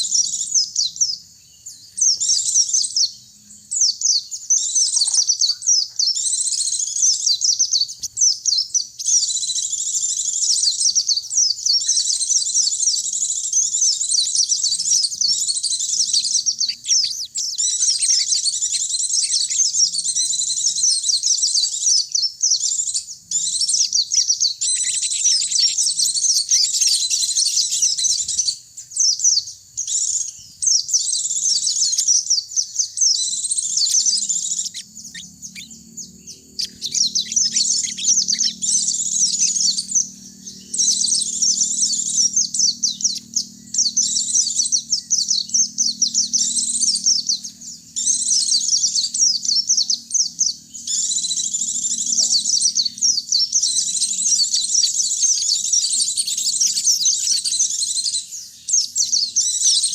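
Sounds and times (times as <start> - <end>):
birds singing high trills: 0.0 - 59.9.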